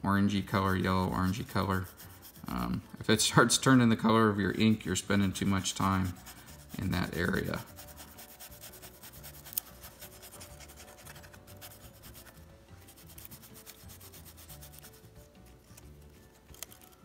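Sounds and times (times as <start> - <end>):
swab scrubbing on tape: 0.5 - 3.1, 4.5 - 17.0.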